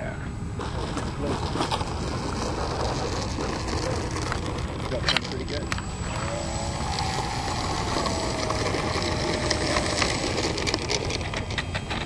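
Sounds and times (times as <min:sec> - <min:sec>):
wind rumble on microphone: 0:00.3 - 0:12.0
electric model plane motor whining: 0:00.7 - 0:12.0.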